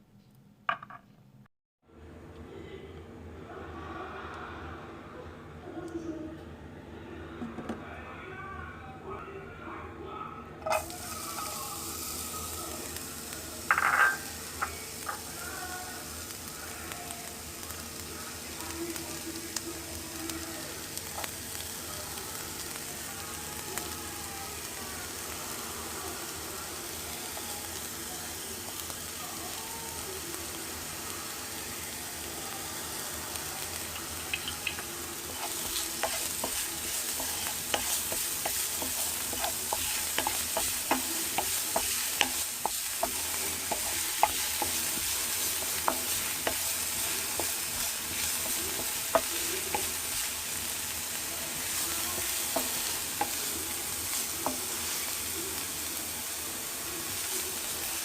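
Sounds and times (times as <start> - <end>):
food sizzling in a frying pan: 10.6 - 58.0
utensil stirring in a pan: 10.6 - 58.0.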